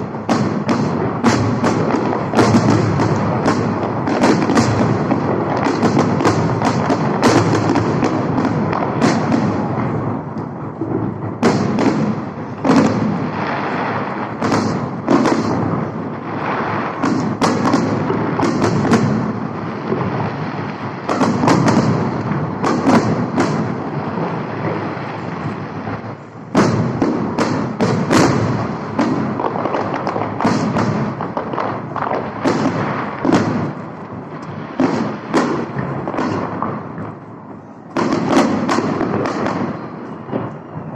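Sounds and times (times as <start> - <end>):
firework shells booming: 0.0 - 40.9
fireworks crackling: 0.0 - 40.9.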